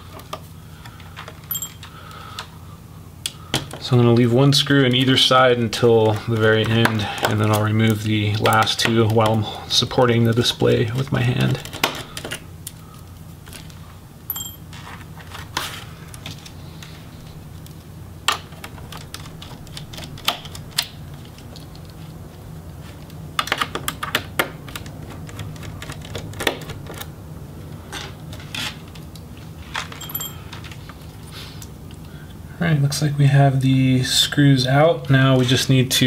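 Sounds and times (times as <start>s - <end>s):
low steady hum: 0.0s - 23.8s, 24.7s - 36.0s.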